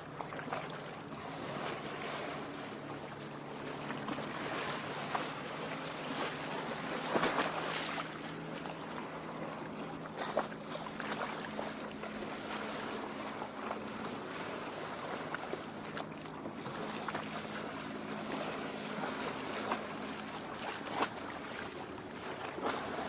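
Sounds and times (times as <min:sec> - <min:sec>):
small waves lapping and splashing: 0:00.0 - 0:23.0.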